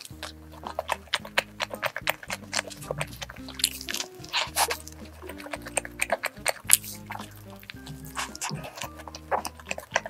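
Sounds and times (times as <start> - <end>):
background music of low chords: 0.0 - 10.0
chewing sandwich: 0.0 - 10.0.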